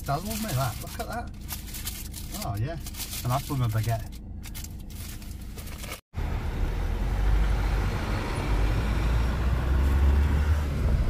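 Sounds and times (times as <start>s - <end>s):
camper van engine and road rumble: 0.0s - 11.0s.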